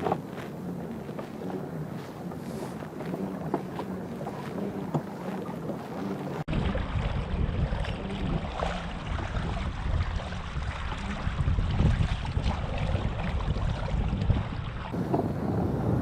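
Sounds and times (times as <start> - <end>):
water lapping against hull: 0.0 - 16.0
wind buffeting microphone: 0.0 - 16.0.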